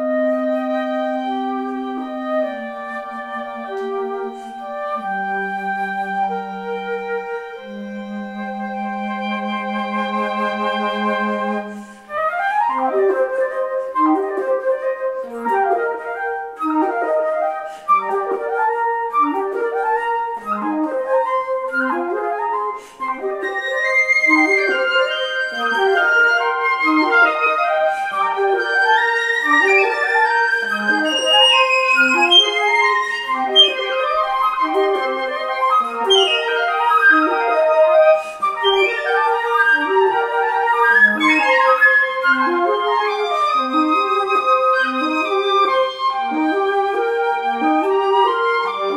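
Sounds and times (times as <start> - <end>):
flute ensemble playing: 0.0 - 48.9.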